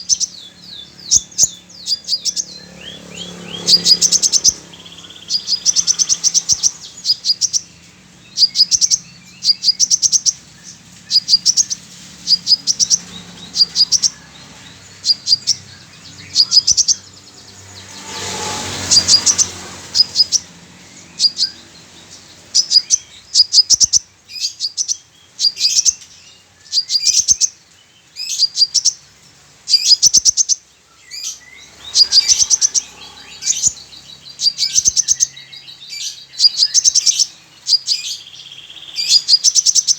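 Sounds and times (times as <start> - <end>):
female sunbird calling: 0.0 - 39.9
sunbird chirping: 0.0 - 39.9.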